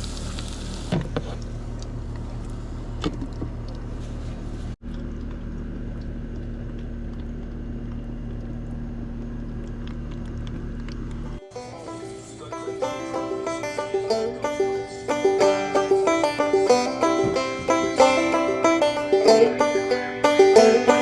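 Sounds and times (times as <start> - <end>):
low motor drone: 0.0 - 21.0.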